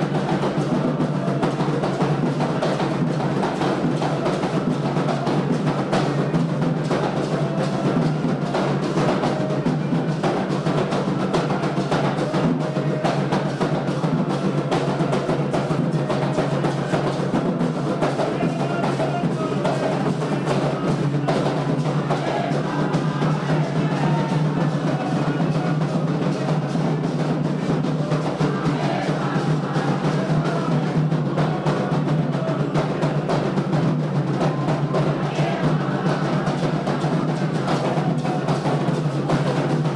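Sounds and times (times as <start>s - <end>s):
hand drums playing rhythm: 0.0s - 39.9s.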